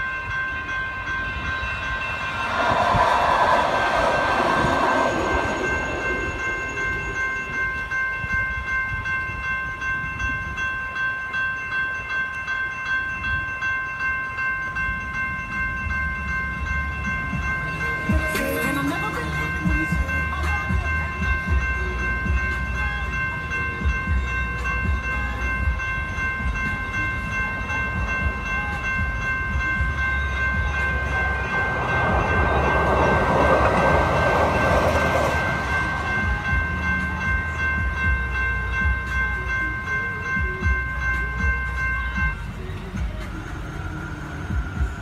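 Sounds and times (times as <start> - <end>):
low traffic rumble: 0.0 - 11.3, 12.1 - 45.0
electronic crossing bells ringing: 0.0 - 45.0
light rail train passing: 0.0 - 45.0.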